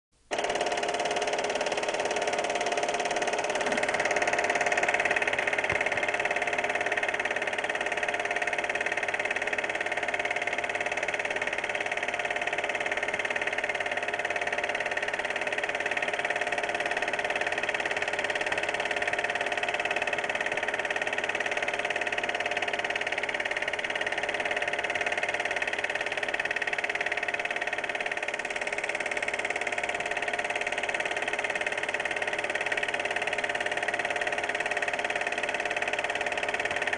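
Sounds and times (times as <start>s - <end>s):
film projector whirring: 0.2s - 36.9s.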